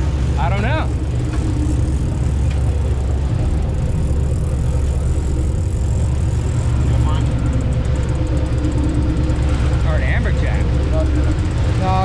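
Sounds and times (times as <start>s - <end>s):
boat engine droning: 0.0s - 12.0s
wind and water hiss: 0.0s - 12.0s.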